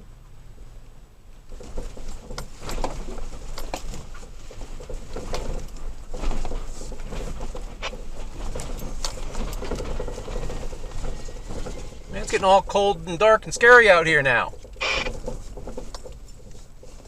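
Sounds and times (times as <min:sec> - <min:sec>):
engine and tyre rumble: 0:00.0 - 0:17.0
vehicle cab rattling and creaking: 0:01.1 - 0:17.0.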